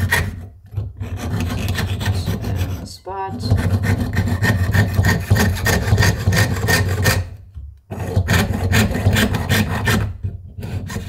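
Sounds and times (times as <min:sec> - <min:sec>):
piercing saw rasping through metal: 0:00.0 - 0:07.3, 0:07.9 - 0:11.0.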